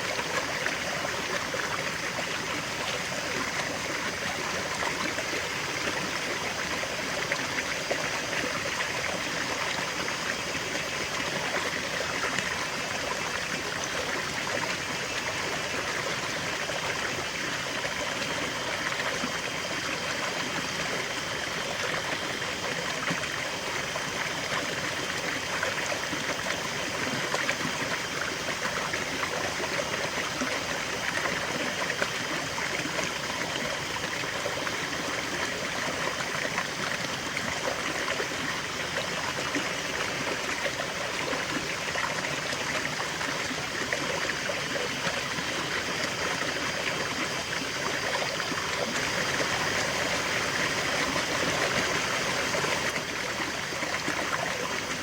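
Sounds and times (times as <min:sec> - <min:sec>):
river water flowing over stones: 0:00.0 - 0:55.0.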